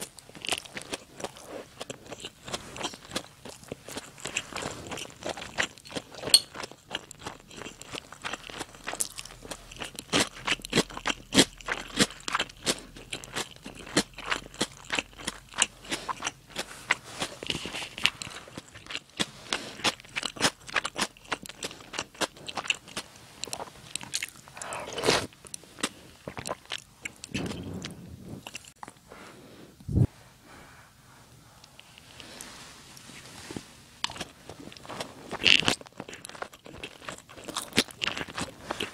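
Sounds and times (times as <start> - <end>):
person chewing crunchy food: 0.0 - 29.1, 33.5 - 38.9.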